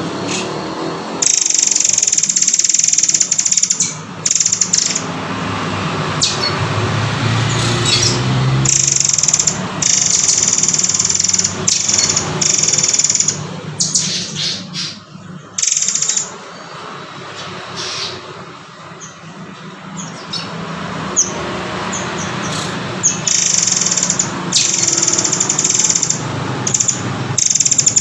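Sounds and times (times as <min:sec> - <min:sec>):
bird harsh buzzing calls: 0:00.0 - 0:28.0.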